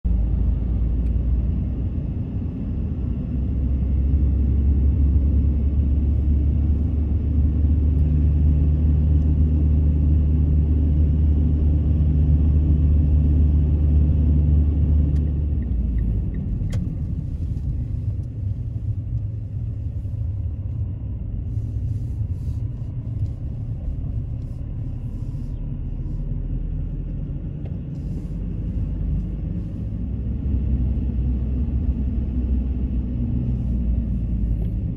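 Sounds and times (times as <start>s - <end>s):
car engine and tyres rumbling: 0.0s - 34.9s.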